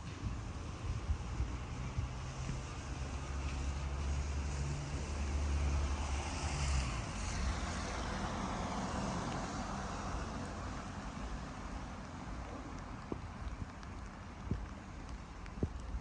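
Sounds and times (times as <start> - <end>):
tyres hissing on wet road: 0.0 - 16.0.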